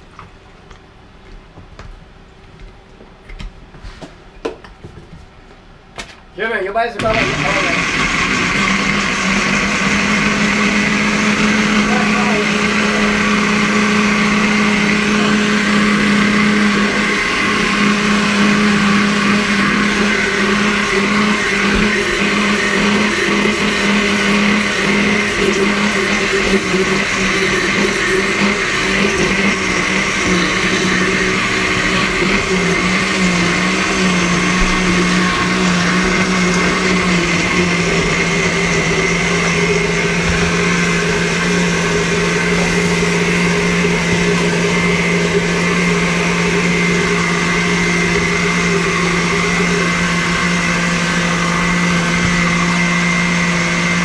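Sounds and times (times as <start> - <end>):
blender running: 7.0 - 54.0.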